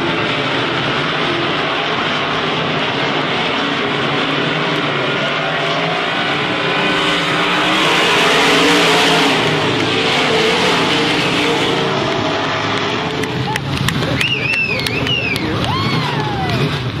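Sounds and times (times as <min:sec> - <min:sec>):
race car engines droning: 0:00.0 - 0:17.0
race car passing close: 0:00.0 - 0:17.0.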